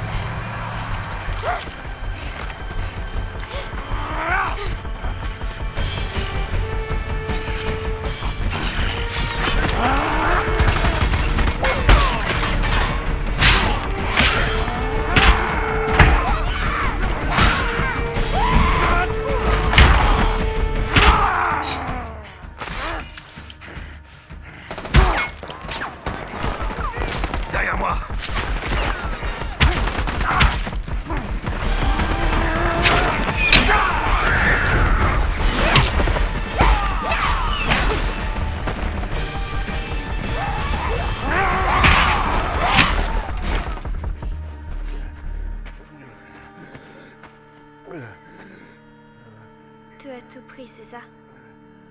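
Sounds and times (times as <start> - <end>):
music with held drone: 0.0 - 24.6, 31.0 - 51.9
low rumbling film score: 0.0 - 51.9.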